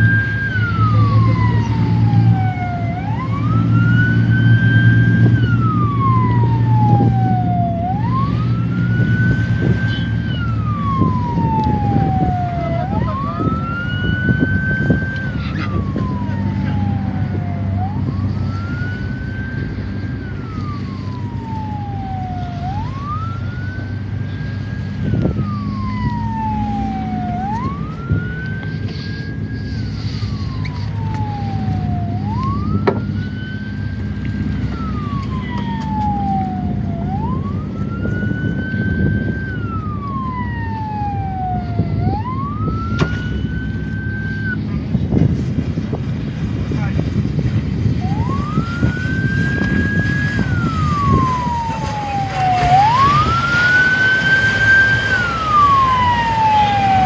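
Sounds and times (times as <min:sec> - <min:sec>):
boat engine drone: 0:00.0 - 0:57.0
wailing boat siren: 0:00.0 - 0:57.0.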